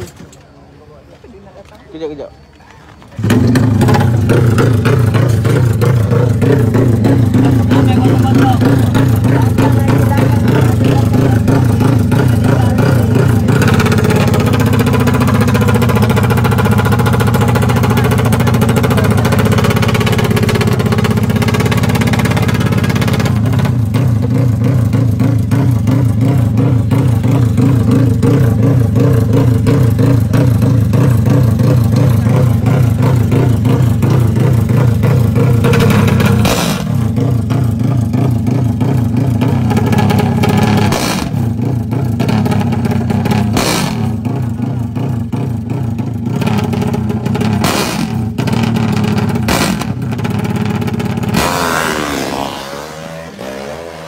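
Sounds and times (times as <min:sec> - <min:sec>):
engine revving burst: 0:03.2 - 0:44.4, 0:46.3 - 0:54.0
motorcycle engine fast idle: 0:03.2 - 0:51.4.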